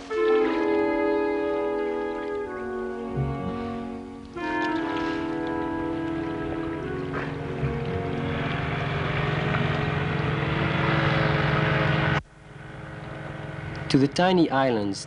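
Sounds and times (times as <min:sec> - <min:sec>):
hull rushing over water: 0:00.0 - 0:12.2
outboard motor running: 0:00.0 - 0:14.4.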